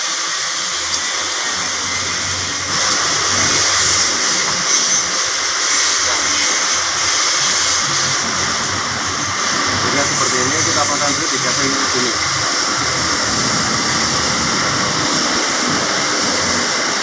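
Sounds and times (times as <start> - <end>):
rushing hissing air noise: 0.0 - 17.0.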